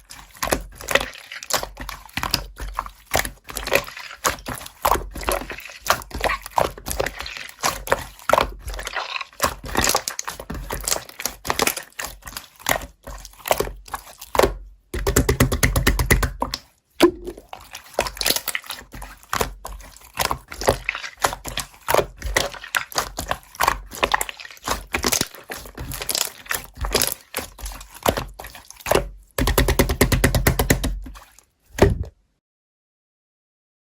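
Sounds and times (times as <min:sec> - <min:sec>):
slime squished by hand: 0:00.0 - 0:32.1.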